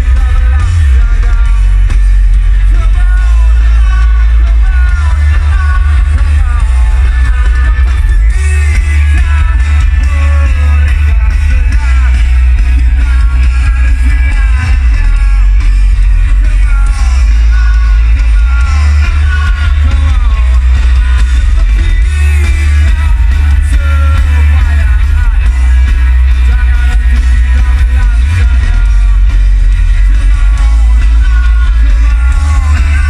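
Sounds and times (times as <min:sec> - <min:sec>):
heavy bass: 0:00.0 - 0:33.0
live rock band playing: 0:00.0 - 0:33.0
person singing: 0:00.0 - 0:33.0.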